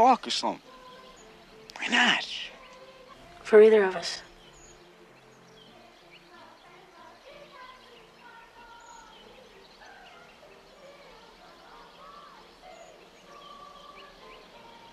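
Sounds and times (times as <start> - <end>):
birds chirping and trilling: 0.0 - 14.9.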